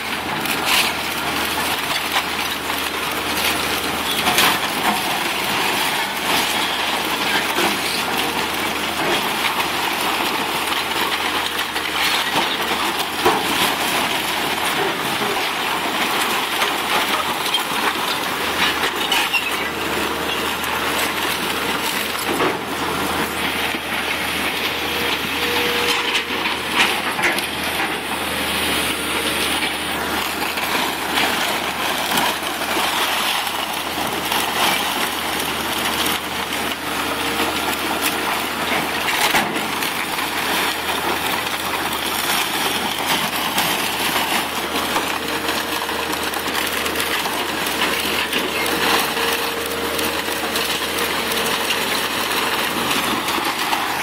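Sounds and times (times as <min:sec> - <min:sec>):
debris crunching and clattering: 0:00.0 - 0:54.0
diesel engine drone: 0:00.0 - 0:54.0.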